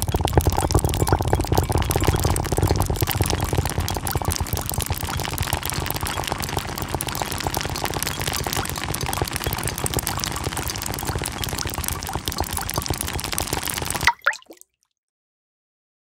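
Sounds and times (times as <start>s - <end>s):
water drops pattering: 0.0s - 14.6s.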